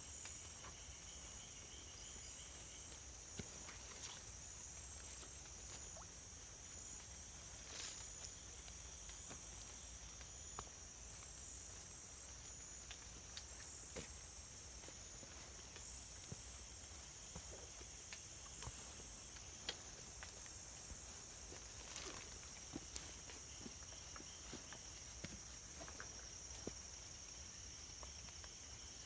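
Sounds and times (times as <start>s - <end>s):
insects chorus: 0.0s - 29.0s
rustle: 0.0s - 29.0s.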